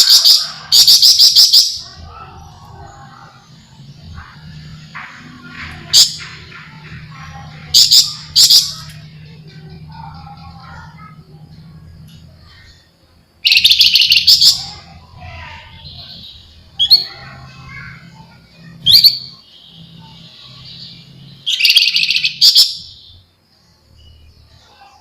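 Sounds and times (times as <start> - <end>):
bird buzzy trills: 0.0 - 11.9, 12.5 - 23.3
faint low hum: 0.0 - 25.0.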